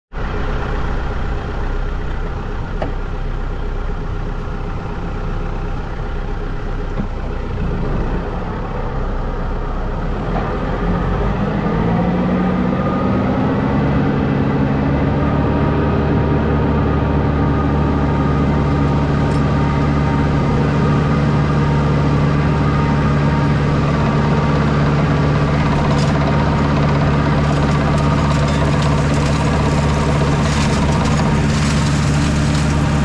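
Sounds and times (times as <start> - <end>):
tractor engine with mulcher: 0.1 - 33.0.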